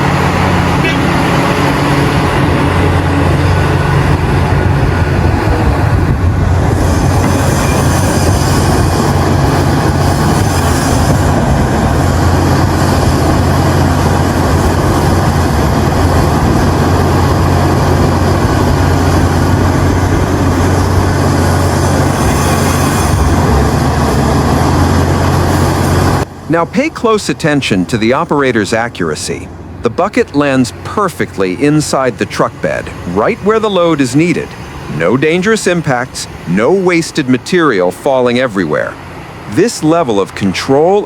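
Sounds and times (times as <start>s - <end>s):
heavy diesel machinery rumbling: 0.0s - 41.0s.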